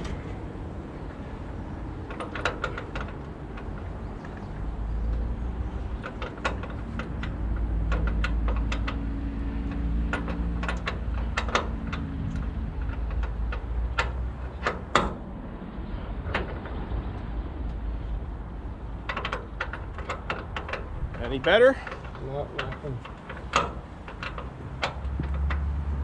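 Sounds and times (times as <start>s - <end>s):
wind rumble on microphone: 0.0s - 21.5s.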